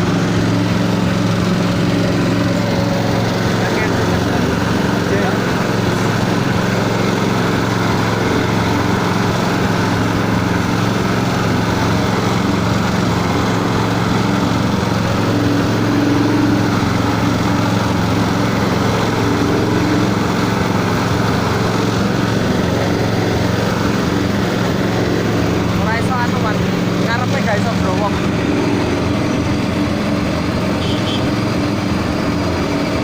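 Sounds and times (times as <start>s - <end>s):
pellet machine motor humming: 0.0s - 33.0s.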